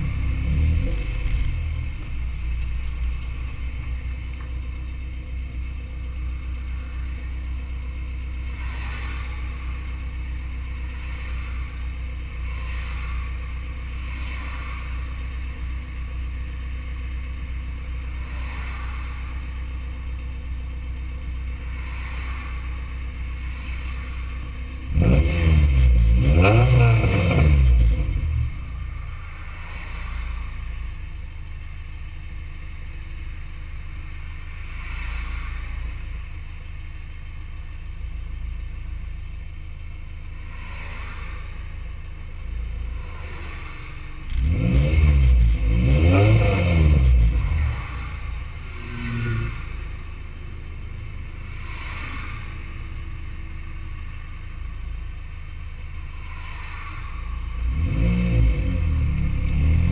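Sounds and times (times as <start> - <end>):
engine revving: 0.0 - 4.4, 5.5 - 17.1, 17.8 - 31.6, 33.2 - 59.9
car engine idling: 0.0 - 59.9.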